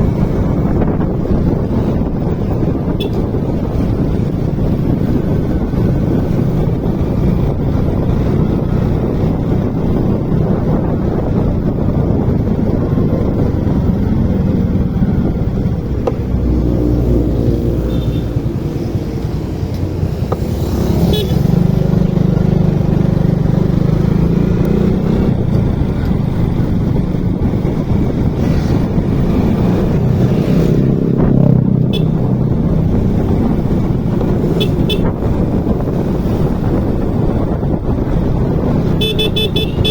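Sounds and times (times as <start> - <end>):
motorcycle engine running: 0.0 - 39.9
road and air rumble: 0.0 - 39.9.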